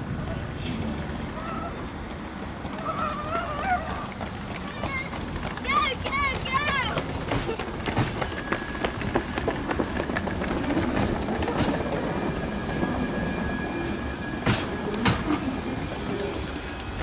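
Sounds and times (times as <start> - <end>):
tram wheels rumbling: 0.0 - 17.0
wheels clacking over rail joints: 0.0 - 17.0.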